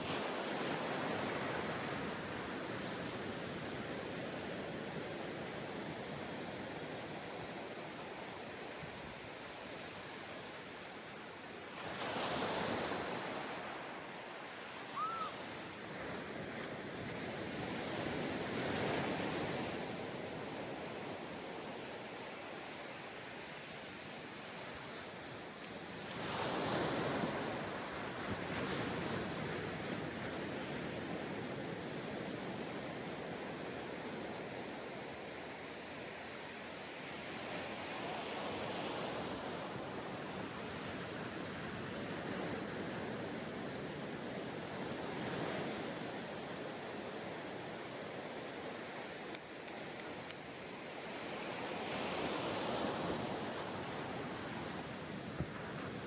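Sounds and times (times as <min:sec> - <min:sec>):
ocean waves breaking on sand: 0:00.0 - 0:56.0.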